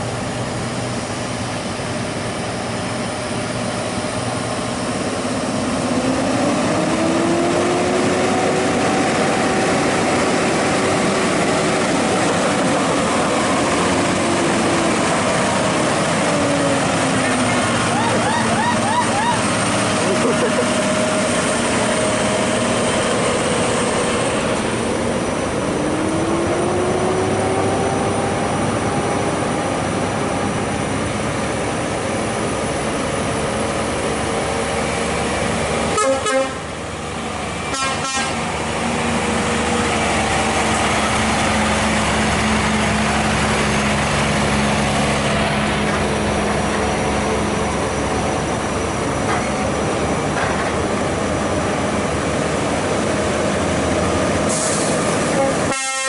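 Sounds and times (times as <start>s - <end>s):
diesel trucks climbing under load: 0.0s - 55.8s.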